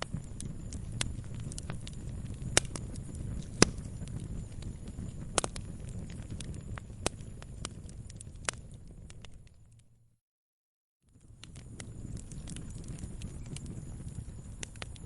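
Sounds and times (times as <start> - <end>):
wood fire crackling: 0.0 - 10.0, 11.1 - 15.0.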